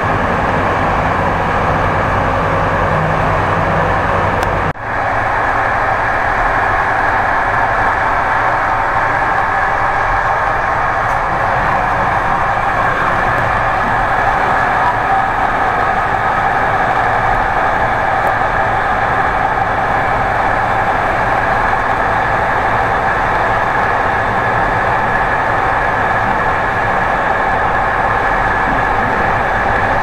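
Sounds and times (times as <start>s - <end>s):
passenger train running: 0.0s - 30.0s.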